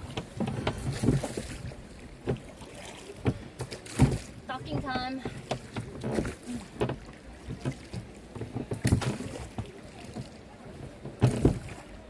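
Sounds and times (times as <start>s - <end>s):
paddle knocking against hull: 0.0s - 12.0s
paddle splashing in water: 0.0s - 12.0s.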